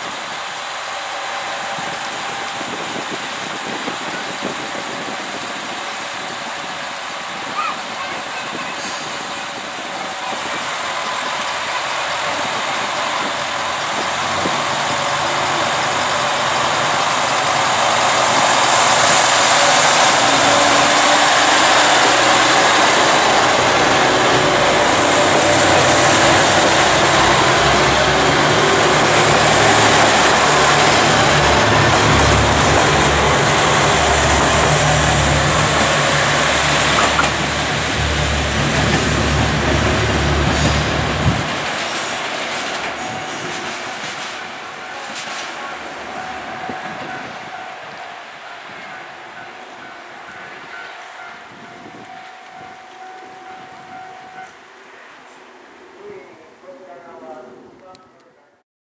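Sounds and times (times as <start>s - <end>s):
diesel railcars idling: 0.0s - 55.9s
train engines revving and passing: 0.0s - 58.3s.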